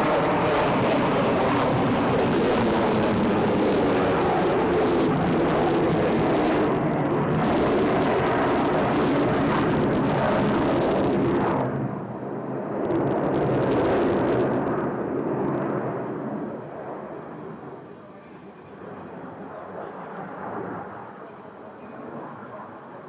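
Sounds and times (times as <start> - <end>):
fighter jet engines roaring: 0.0 - 23.0.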